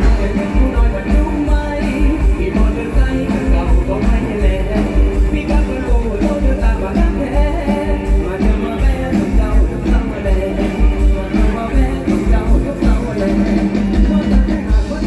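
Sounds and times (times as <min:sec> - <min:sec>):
band music with bass beat: 0:00.0 - 0:15.0
person singing: 0:00.0 - 0:15.0.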